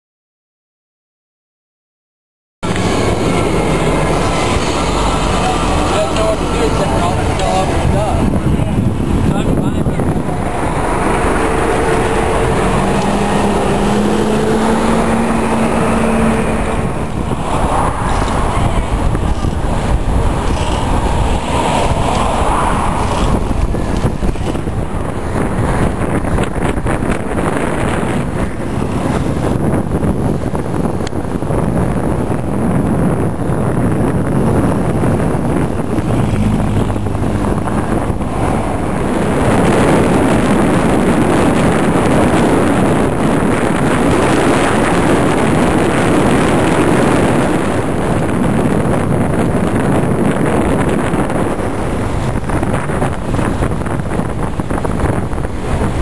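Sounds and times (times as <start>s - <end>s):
wind rushing over microphone: 2.6s - 56.0s.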